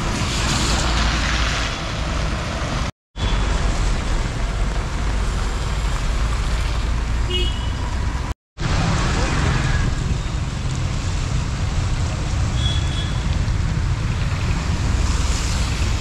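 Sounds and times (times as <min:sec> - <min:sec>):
tyres hissing on wet road: 0:00.0 - 0:07.3, 0:08.6 - 0:16.0.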